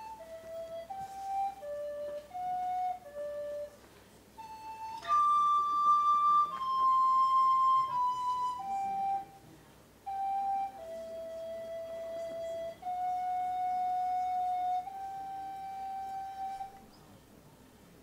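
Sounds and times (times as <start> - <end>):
flute playing slow melody: 0.0 - 16.9.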